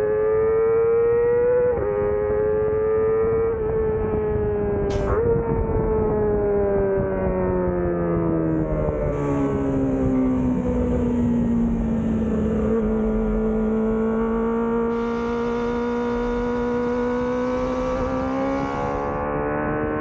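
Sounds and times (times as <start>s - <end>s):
motorcycle engine high revving: 0.0s - 20.0s.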